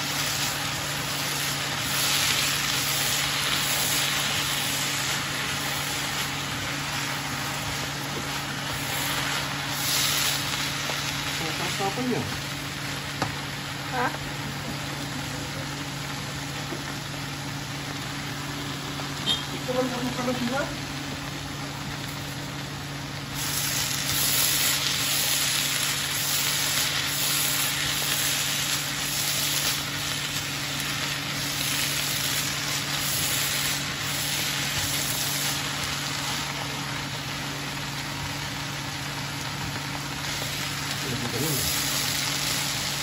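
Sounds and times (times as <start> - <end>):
vegetables sizzling in a pan: 0.0 - 43.0.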